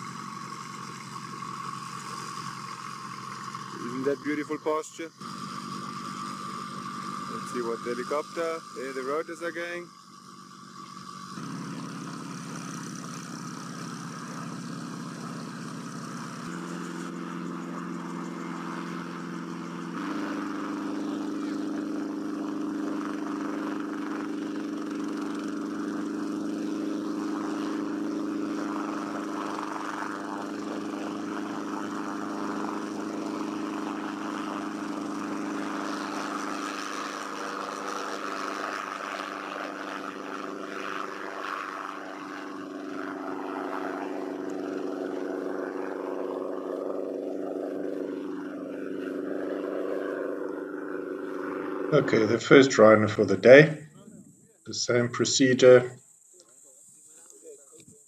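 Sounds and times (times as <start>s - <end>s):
helicopter engine and rotor drone: 0.0s - 54.8s.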